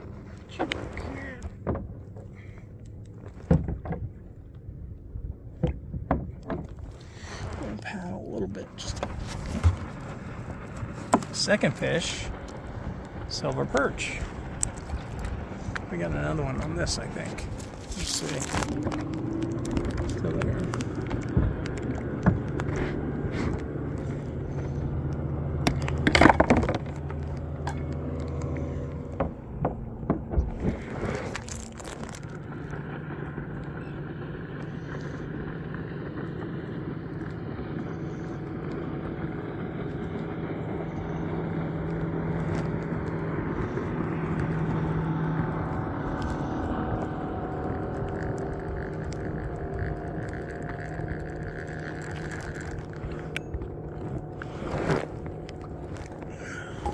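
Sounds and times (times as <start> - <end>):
motorboat engine droning: 0.0 - 56.9
gear knocking and scraping on kayak: 3.0 - 4.7, 5.5 - 56.9.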